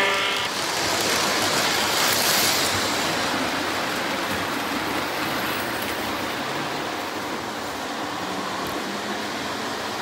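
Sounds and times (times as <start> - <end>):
model train rolling rumble: 0.0 - 10.0.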